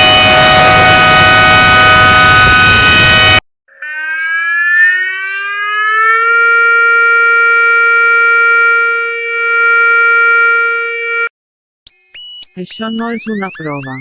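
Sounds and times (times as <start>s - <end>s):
electronic siren winding up: 0.0s - 11.3s, 11.9s - 14.0s.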